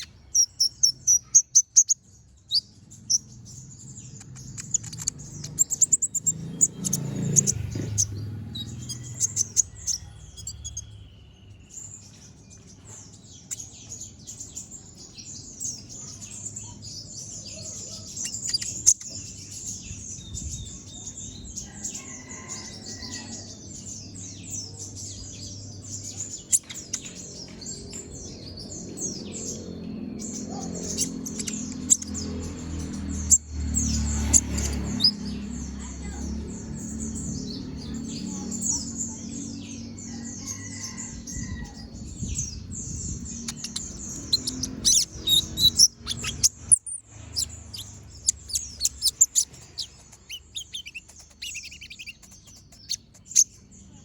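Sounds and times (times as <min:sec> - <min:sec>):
sunbird singing chattering song: 0:00.0 - 0:54.0.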